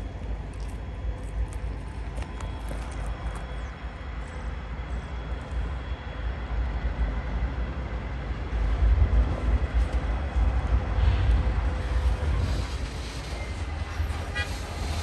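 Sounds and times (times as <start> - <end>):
diesel freight train rumbling: 0.0 - 15.0.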